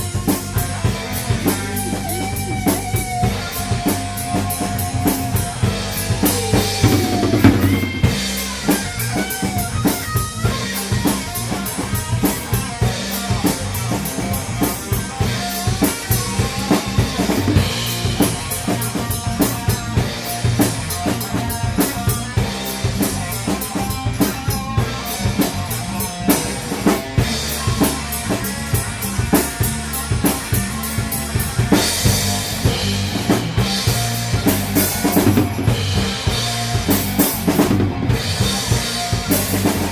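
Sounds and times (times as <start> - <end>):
drum kit beat: 0.0 - 39.9
rock music: 0.0 - 39.9.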